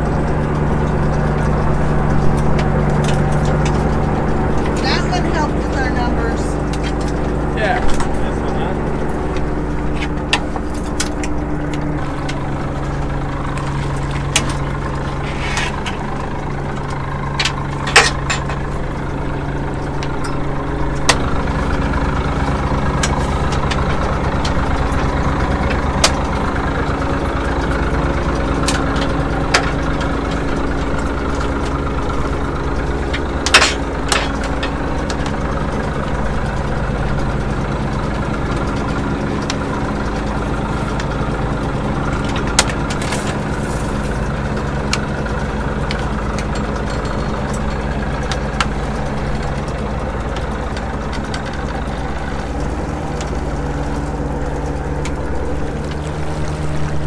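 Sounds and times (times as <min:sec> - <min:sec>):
boat engine humming: 0:00.0 - 0:57.0.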